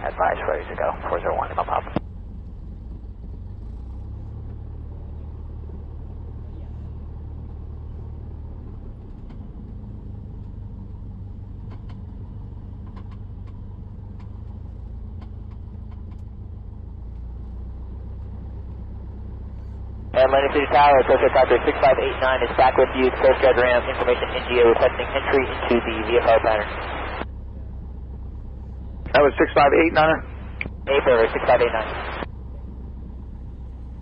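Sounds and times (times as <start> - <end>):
light aircraft engine idling: 0.0 - 34.0.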